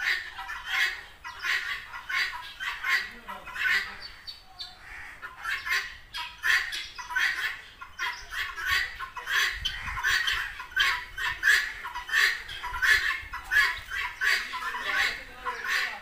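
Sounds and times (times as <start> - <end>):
farmyard fowl calling: 0.0 - 16.0.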